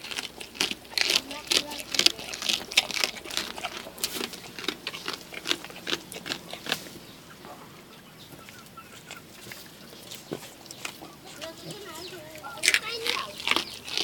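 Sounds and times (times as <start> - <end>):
goat chewing crunchily: 0.0 - 14.0.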